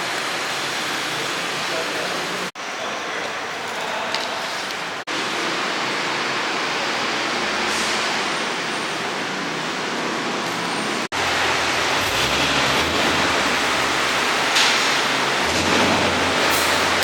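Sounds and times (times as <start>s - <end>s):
city street traffic noise: 0.0s - 17.0s.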